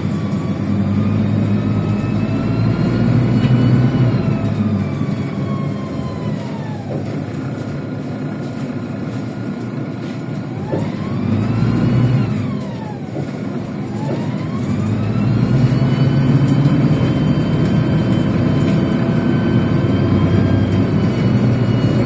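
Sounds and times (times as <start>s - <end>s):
bus diesel engine rumbling: 0.0s - 22.0s
drivetrain whine: 0.0s - 22.0s.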